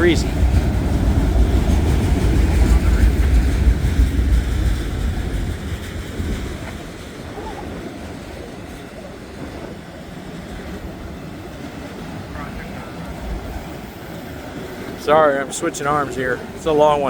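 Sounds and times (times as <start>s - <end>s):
freight train rolling past: 0.0s - 17.0s
wind gusting on microphone: 0.0s - 17.0s.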